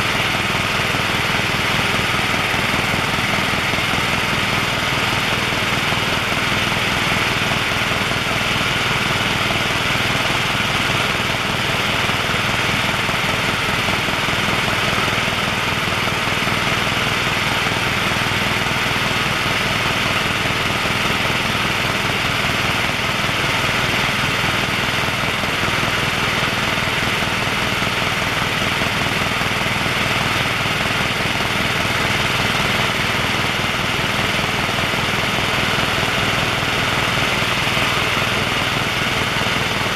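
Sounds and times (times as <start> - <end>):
helicopter turbine and rotor drone: 0.0 - 39.9.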